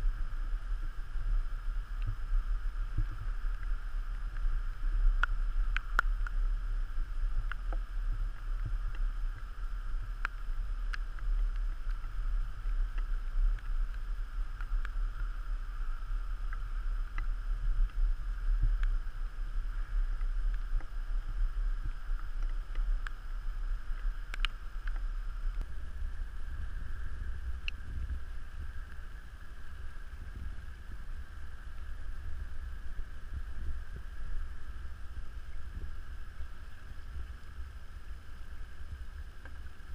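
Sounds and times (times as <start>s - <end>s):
low rumble: 0.0s - 39.9s
muffled wind: 0.0s - 39.9s
water noise: 0.0s - 39.9s.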